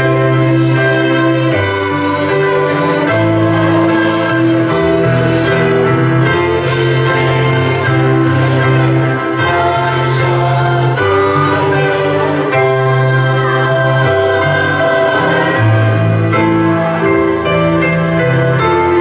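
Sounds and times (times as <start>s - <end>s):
church choir singing: 0.0s - 19.0s
instrumental accompaniment: 0.0s - 19.0s.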